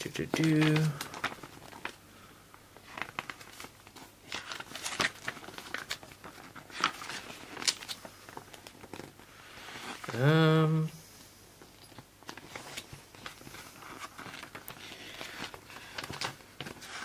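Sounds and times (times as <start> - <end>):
paper and packaging crinkling: 0.0 - 2.0, 2.8 - 10.3, 11.8 - 17.0.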